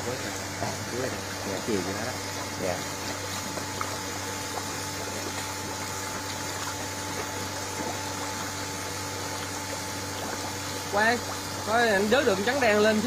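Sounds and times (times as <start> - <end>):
running water in a pond: 0.0 - 13.0.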